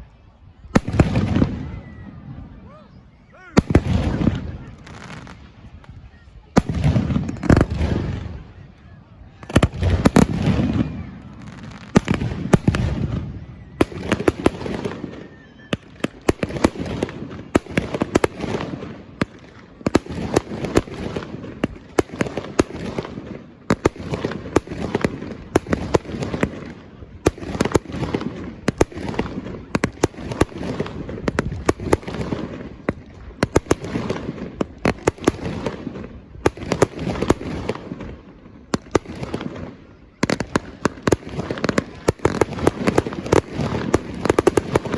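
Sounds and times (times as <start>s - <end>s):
deep firework bangs: 0.8s - 2.5s, 3.6s - 5.9s, 6.6s - 8.6s, 9.4s - 44.9s.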